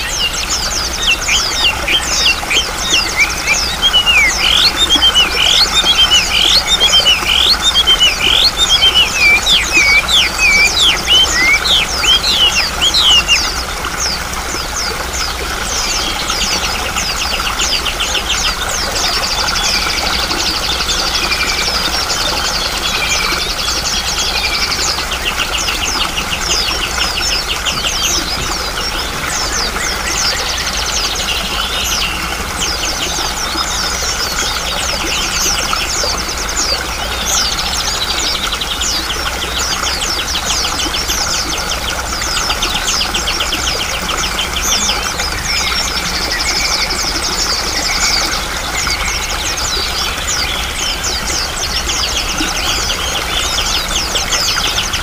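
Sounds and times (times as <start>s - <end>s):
flowing water rushing: 0.0s - 55.0s
songbirds chirping and trilling: 0.0s - 55.0s.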